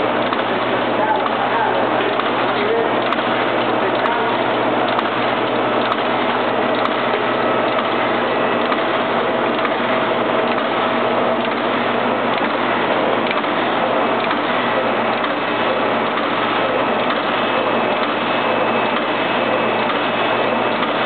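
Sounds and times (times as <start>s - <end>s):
machine mechanical clatter: 0.0s - 21.0s.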